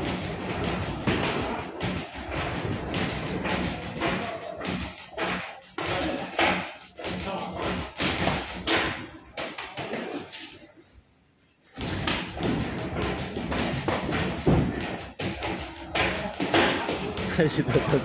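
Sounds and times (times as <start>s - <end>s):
gym noise: 0.0s - 10.8s, 11.6s - 18.0s
footwork on ring canvas: 0.0s - 18.0s.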